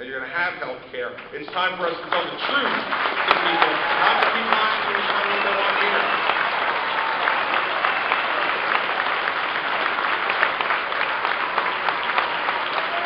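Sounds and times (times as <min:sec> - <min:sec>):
large audience applauding: 0:01.5 - 0:13.0.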